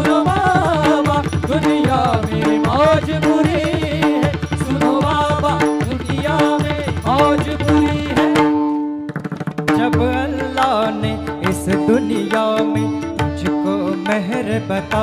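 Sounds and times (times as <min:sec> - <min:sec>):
tabla rhythm: 0:00.0 - 0:15.0.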